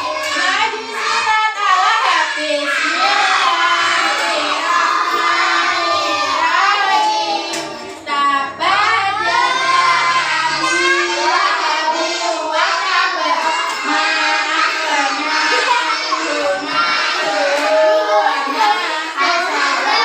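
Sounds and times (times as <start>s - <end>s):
young children singing: 0.0s - 20.0s.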